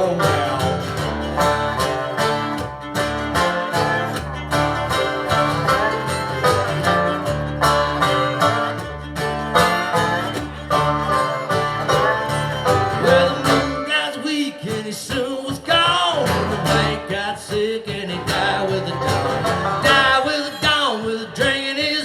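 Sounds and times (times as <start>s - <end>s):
bluegrass band playing: 0.0s - 22.0s
picked banjo: 0.0s - 22.0s.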